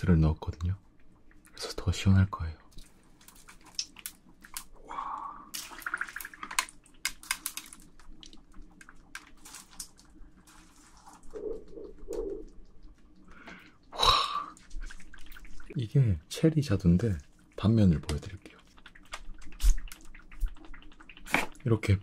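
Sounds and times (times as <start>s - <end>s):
dry ice bubbling and gurgling: 0.0s - 22.0s
small crackles and pops: 0.0s - 22.0s.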